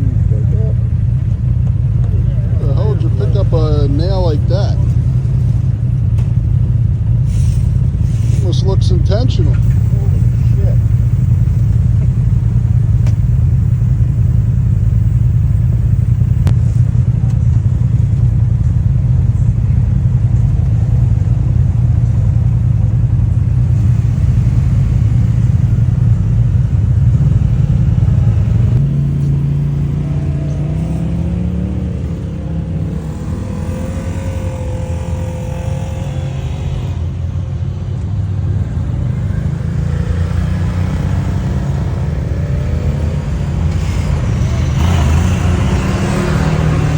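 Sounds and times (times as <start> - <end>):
off-road vehicle engine running: 0.0 - 46.9.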